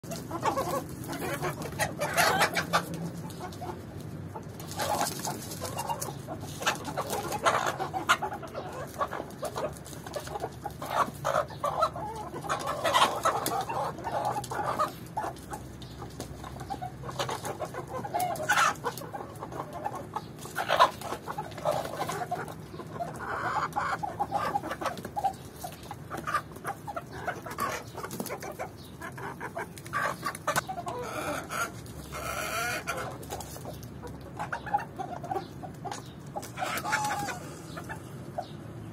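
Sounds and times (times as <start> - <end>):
chickens clucking and calling: 0.0 - 38.9.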